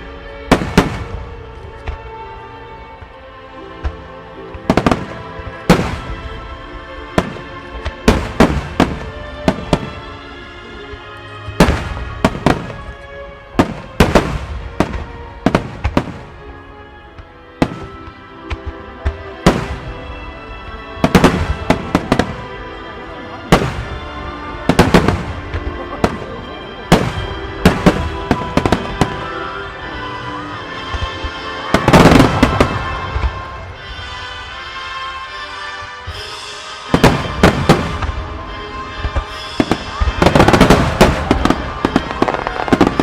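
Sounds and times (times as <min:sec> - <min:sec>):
fireworks booming and crackling: 0:00.0 - 0:03.1, 0:03.8 - 0:34.5, 0:35.9 - 0:43.0
music playing: 0:00.0 - 0:43.0.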